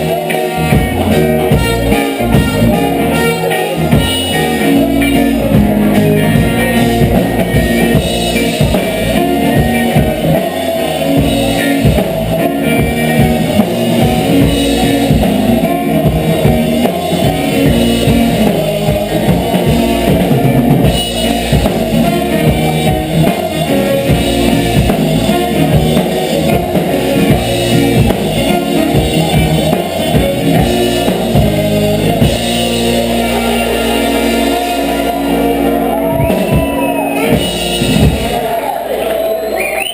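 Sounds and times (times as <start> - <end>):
band playing dub reggae: 0.0 - 39.9.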